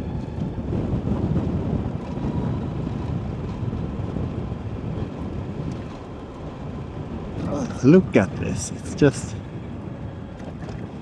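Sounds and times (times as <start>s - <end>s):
wind buffeting microphone: 0.0s - 11.0s
tyres rumbling on gravel: 1.7s - 11.0s.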